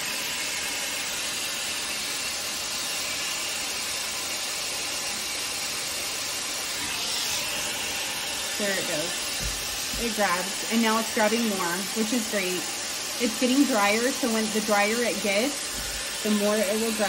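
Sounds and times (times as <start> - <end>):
hair styler blowing air: 0.0 - 17.0.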